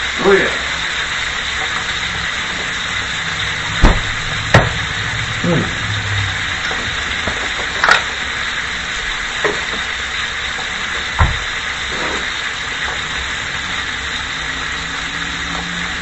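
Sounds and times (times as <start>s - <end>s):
steak sizzling in skillet: 0.0s - 16.0s.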